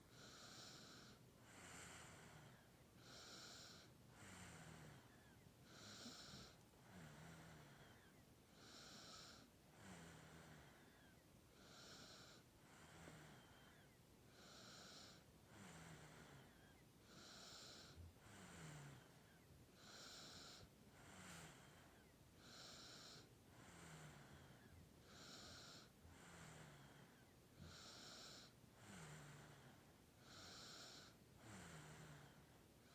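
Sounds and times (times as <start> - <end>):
baby snoring softly: 0.1 - 32.9.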